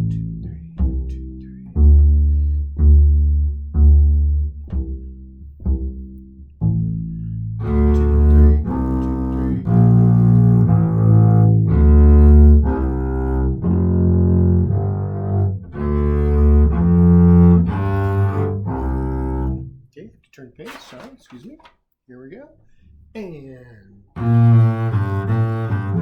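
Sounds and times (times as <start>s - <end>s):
double bass bowed notes: 0.0s - 19.8s, 23.9s - 26.0s
double bass plucked notes: 0.0s - 19.8s, 24.0s - 26.0s.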